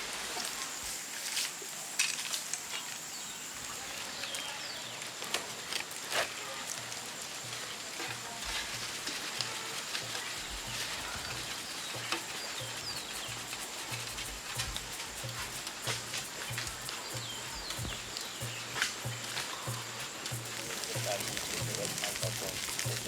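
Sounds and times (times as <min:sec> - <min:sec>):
small fire crackling: 0:00.0 - 0:23.0.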